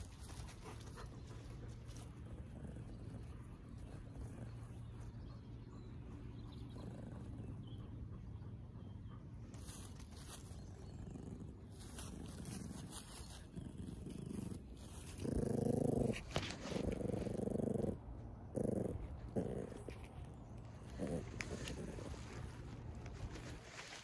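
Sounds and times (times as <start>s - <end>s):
cat purring: 0.0s - 5.1s, 6.6s - 24.0s
sheep sniffing and breathing: 0.0s - 24.0s.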